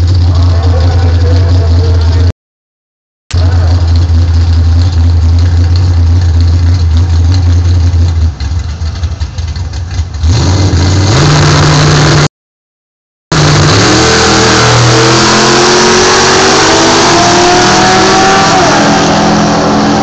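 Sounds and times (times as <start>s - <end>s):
loud car engine idling and revving: 0.0s - 2.3s, 3.3s - 12.3s, 13.3s - 20.0s.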